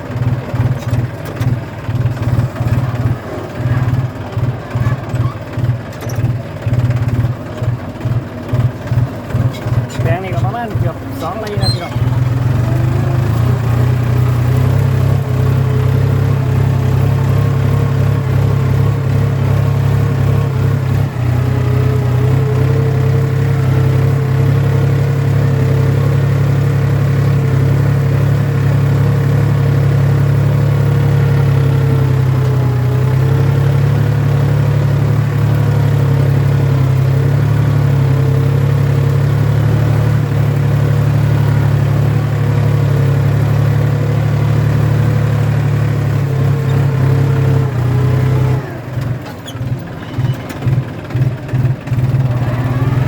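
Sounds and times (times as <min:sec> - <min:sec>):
tractor engine running under load: 0:00.0 - 0:53.0.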